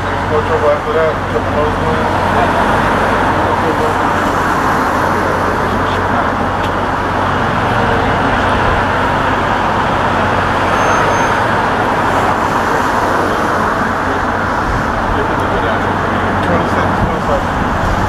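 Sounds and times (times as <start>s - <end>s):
city traffic hum: 0.0s - 18.0s.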